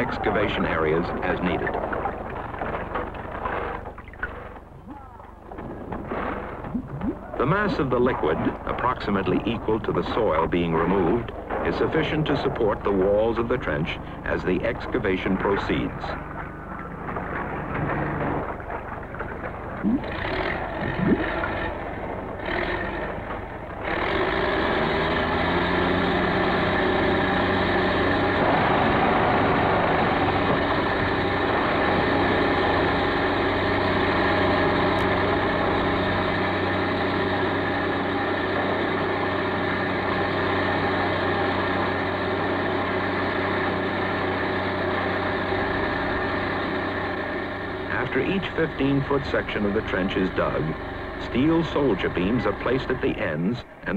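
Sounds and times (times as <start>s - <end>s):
crane engine running: 0.0s - 53.9s.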